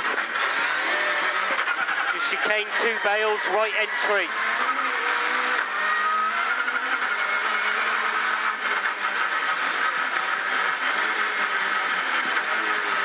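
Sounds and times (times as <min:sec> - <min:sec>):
car engine revving through gears: 0:00.0 - 0:13.0.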